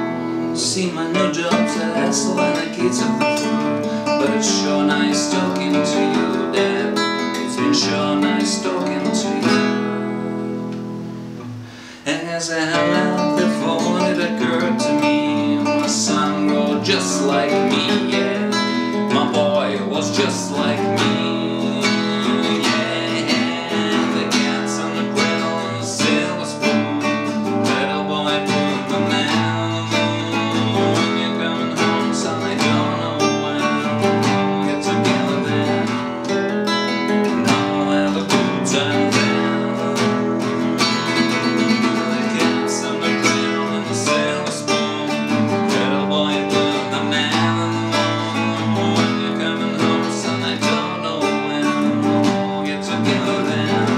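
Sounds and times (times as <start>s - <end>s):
acoustic guitar strummed: 0.0s - 53.9s.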